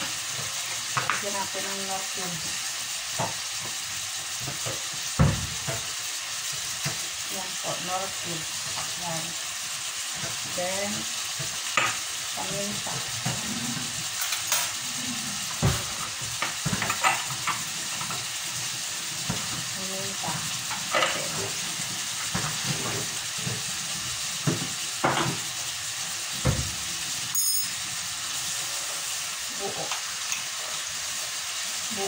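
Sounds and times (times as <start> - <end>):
chicken sizzling in a pan: 0.0 - 32.0.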